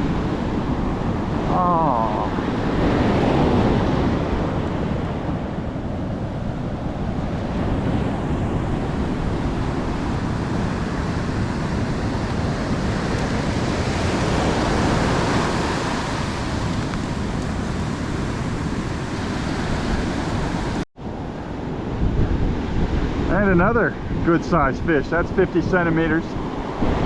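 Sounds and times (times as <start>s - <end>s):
heavy surf breaking: 0.0s - 27.0s
wind buffeting microphone: 0.0s - 27.0s.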